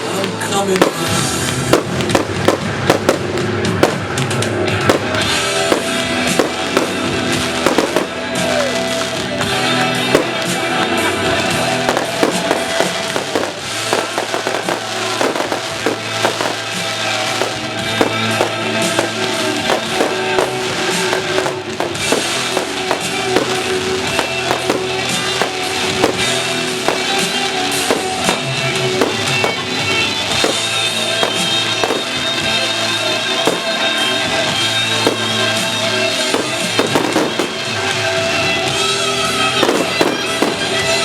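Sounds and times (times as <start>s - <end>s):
fireworks bangs and crackles: 0.0s - 41.0s
music: 0.0s - 41.0s.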